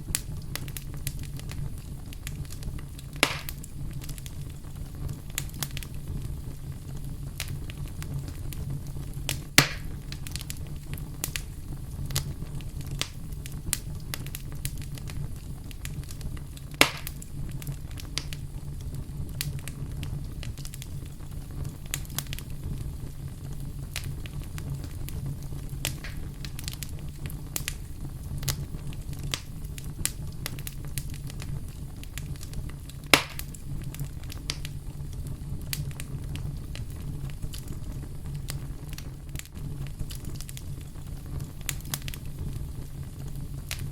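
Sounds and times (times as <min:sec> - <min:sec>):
campfire crackling: 0:00.0 - 0:43.9
loud fire pops: 0:00.0 - 0:43.9.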